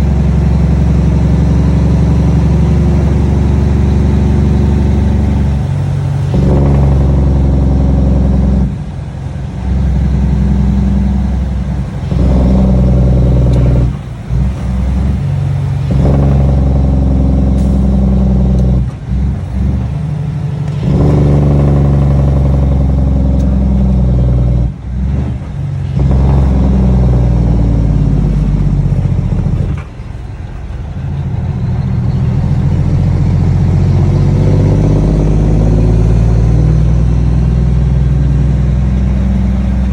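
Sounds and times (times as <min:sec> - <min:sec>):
loud diesel engine exhaust: 0:00.0 - 0:39.9.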